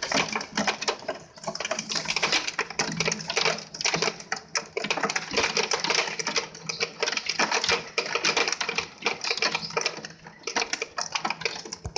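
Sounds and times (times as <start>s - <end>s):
heavy rain on window glass: 0.0s - 11.9s.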